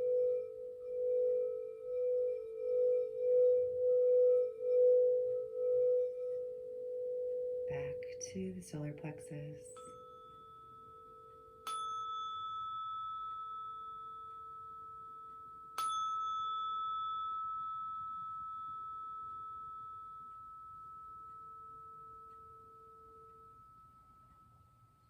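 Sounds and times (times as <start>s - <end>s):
tuning fork ringing: 0.0s - 25.0s.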